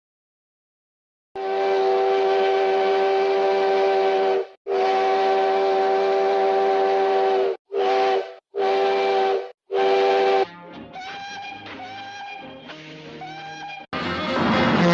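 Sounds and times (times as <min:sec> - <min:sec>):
steam locomotive whistle: 0:01.4 - 0:13.8.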